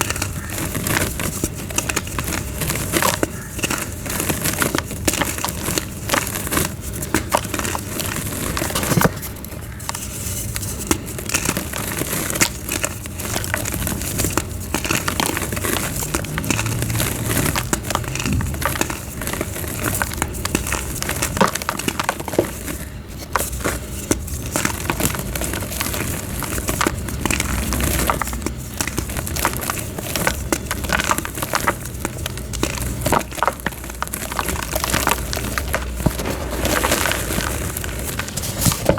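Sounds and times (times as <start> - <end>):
chalk crushed and crumbling: 0.0 - 38.9.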